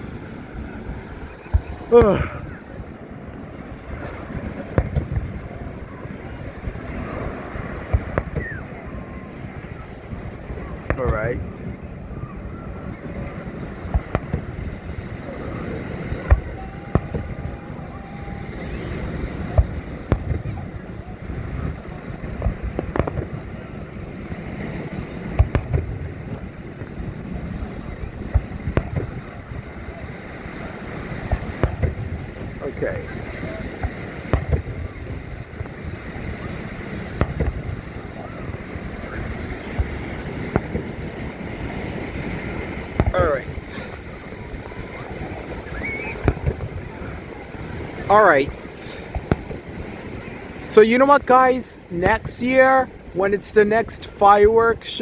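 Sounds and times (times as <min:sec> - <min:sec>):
wind rumble on microphone: 0:00.0 - 0:50.7
distant fireworks bangs: 0:00.0 - 0:55.0.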